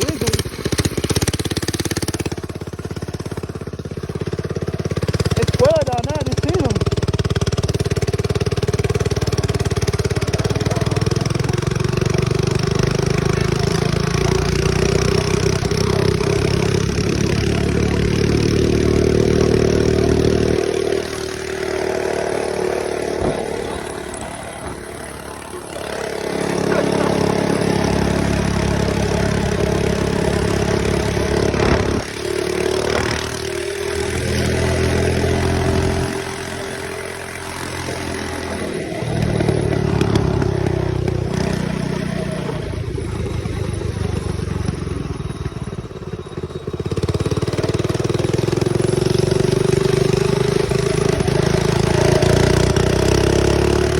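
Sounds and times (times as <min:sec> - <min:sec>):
mini bike engine running: 0:00.0 - 0:53.9.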